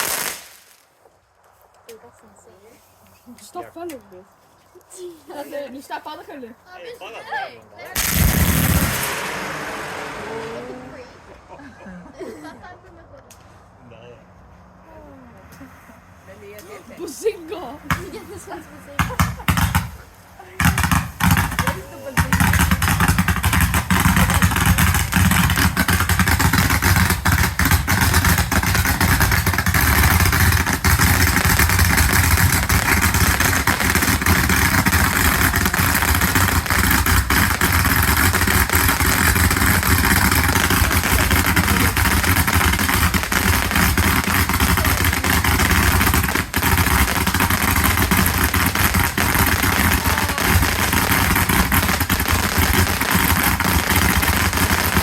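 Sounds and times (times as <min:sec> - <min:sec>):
fireworks crackling: 0:00.0 - 0:04.2, 0:04.8 - 0:13.5, 0:16.0 - 0:55.0.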